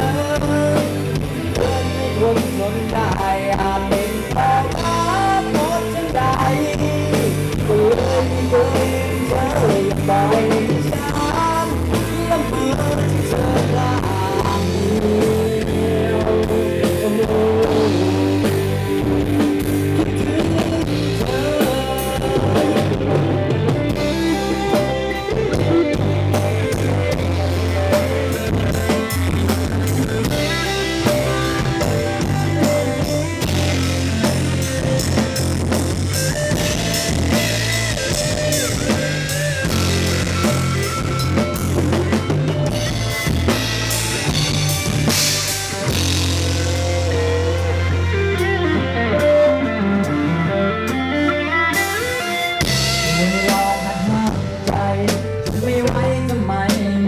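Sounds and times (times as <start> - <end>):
drum kit: 0.0 - 57.0
steady bass: 0.0 - 57.0.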